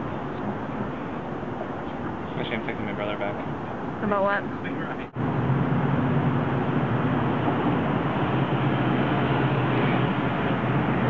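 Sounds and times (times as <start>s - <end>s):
low engine hum: 0.0s - 11.0s
street traffic: 0.0s - 11.0s.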